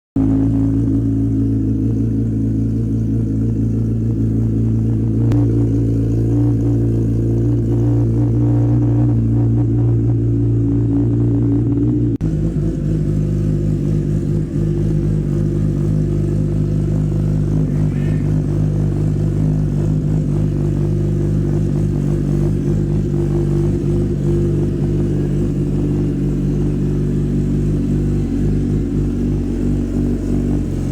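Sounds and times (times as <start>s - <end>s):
motorcycle engine running: 0.2s - 30.9s.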